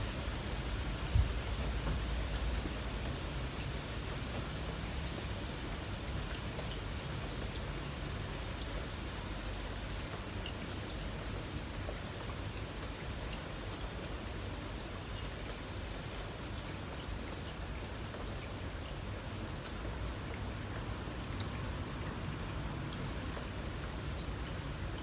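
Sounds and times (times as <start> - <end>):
light rain falling: 0.0 - 25.0
faint high insect trill: 0.1 - 25.0
raindrops ticking: 0.1 - 25.0.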